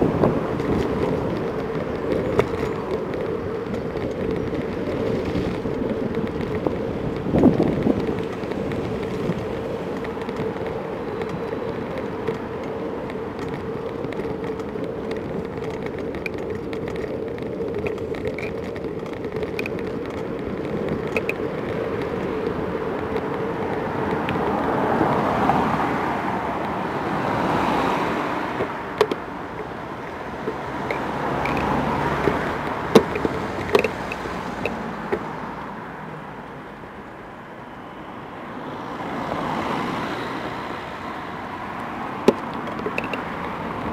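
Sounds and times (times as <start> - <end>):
cars passing: 0.0 - 43.9
wind and rolling noise: 0.0 - 43.9.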